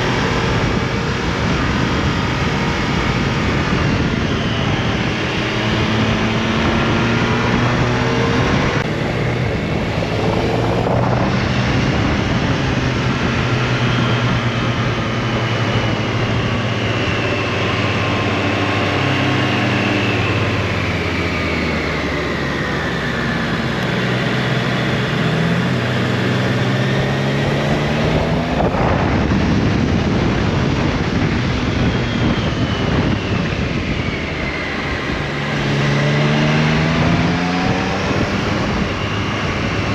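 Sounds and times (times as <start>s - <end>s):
motorcycle engine revving: 0.0s - 39.9s
wind and road rush: 0.0s - 39.9s.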